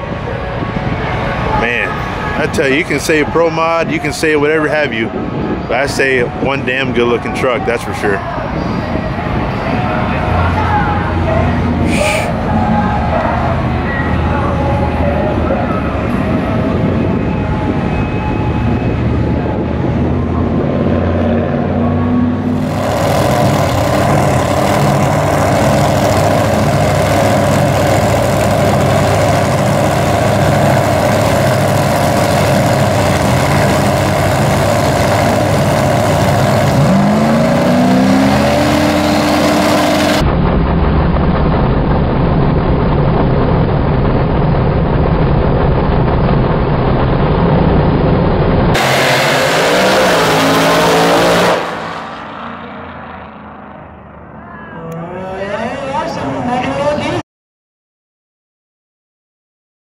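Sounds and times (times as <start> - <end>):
drag racing engines running: 0.0 - 55.0.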